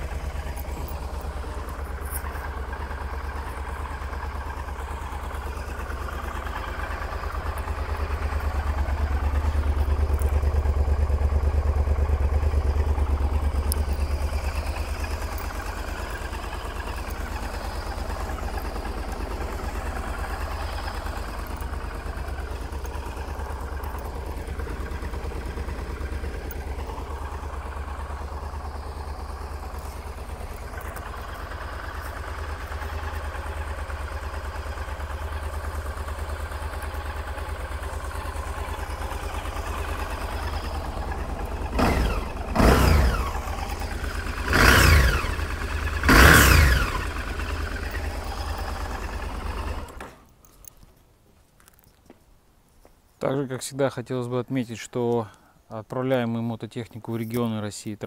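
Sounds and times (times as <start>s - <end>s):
motorcycle engine revving: 0.0s - 50.1s
motorcycle engine idling: 0.0s - 50.8s.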